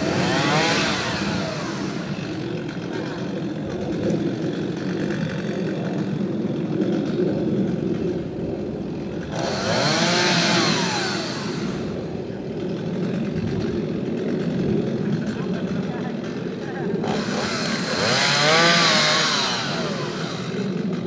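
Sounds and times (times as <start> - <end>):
chainsaw idling and revving: 0.0 - 21.0.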